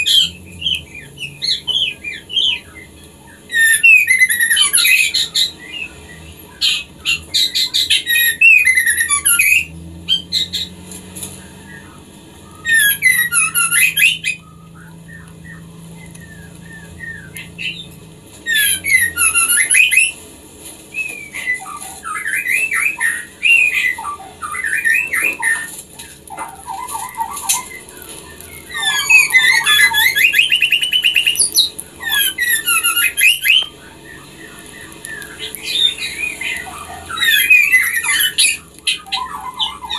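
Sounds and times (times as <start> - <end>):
songbird whistling and chattering: 0.0 - 10.7, 11.4 - 20.2, 20.9 - 39.9.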